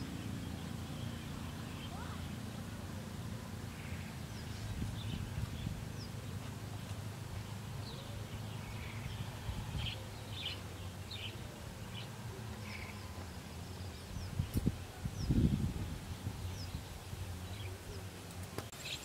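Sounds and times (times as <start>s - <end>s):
steady low rumble: 0.0s - 18.2s
small birds chirping: 0.0s - 19.0s.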